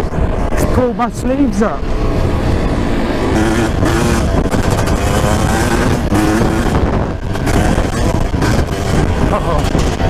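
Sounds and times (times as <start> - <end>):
two-stroke dirt bike engine: 0.0 - 10.0.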